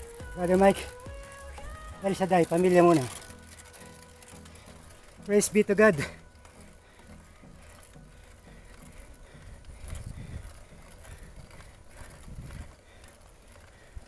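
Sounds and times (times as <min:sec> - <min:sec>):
mountain bike riding on concrete: 0:00.0 - 0:14.0.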